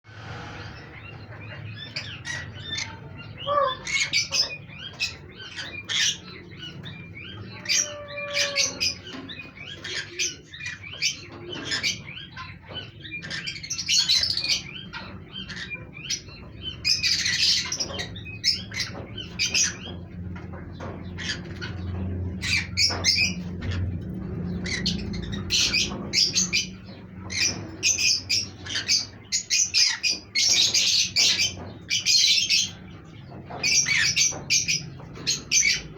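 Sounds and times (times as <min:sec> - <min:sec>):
parrots squawking and chirping: 0:00.3 - 0:35.9.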